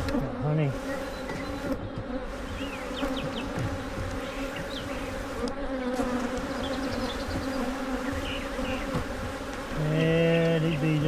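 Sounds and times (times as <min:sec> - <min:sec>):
bees zipping past: 0:00.0 - 0:11.0
honeybees buzzing: 0:00.0 - 0:11.0.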